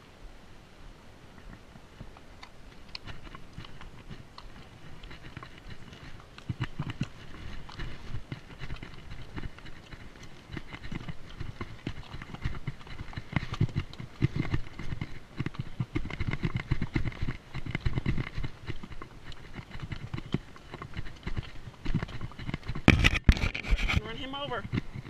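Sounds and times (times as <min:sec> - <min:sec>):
hooves clopping on stone: 0:01.3 - 0:25.0
brushing against microphone: 0:03.0 - 0:25.0.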